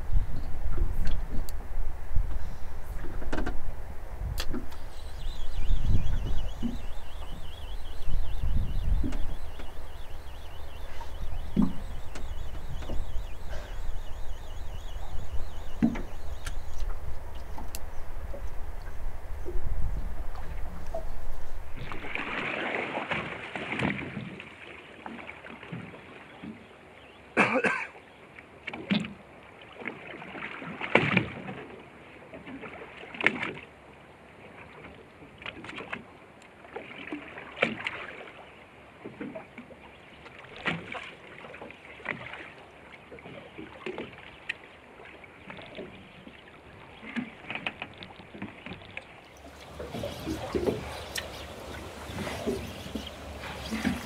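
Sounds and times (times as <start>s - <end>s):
water splashes: 0.0s - 26.6s, 28.6s - 33.7s, 34.4s - 54.0s
water lapping against boat hull: 0.0s - 26.7s, 27.4s - 33.7s, 34.4s - 54.0s.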